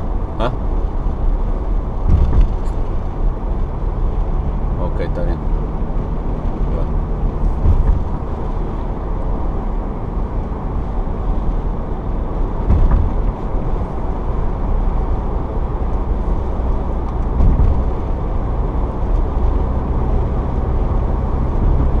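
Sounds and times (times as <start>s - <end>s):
low thumps from road bumps: 0.0s - 22.0s
road and engine noise in cab: 0.0s - 22.0s.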